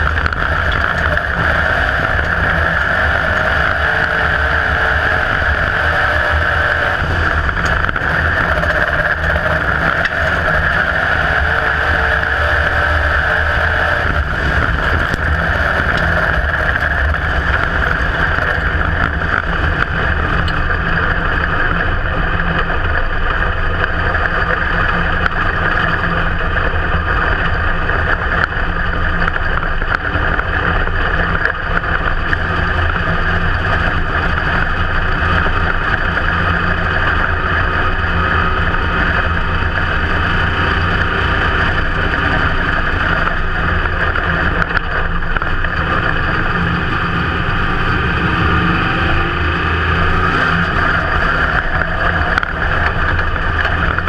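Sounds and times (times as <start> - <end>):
race car engine droning: 0.0 - 54.0.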